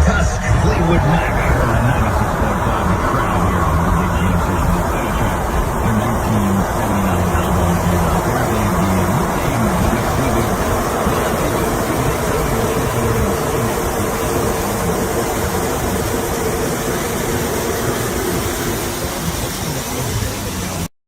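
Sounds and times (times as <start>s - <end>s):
boat engine running: 0.0s - 20.9s
water rushing: 0.0s - 20.9s
wind rushing: 0.0s - 20.9s.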